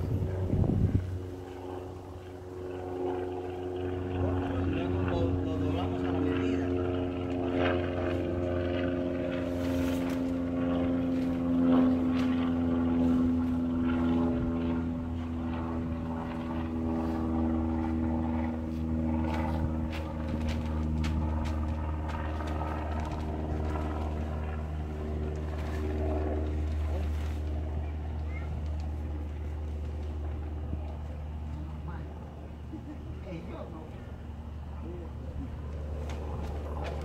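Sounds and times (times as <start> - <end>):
engine running steadily: 0.0 - 37.0.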